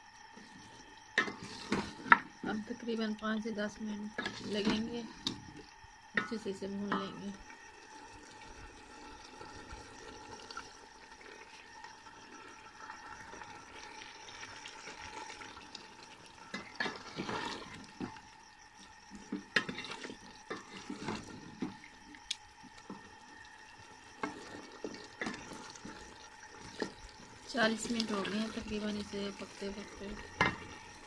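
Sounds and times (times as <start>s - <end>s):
curry sizzling and bubbling: 0.0s - 31.0s.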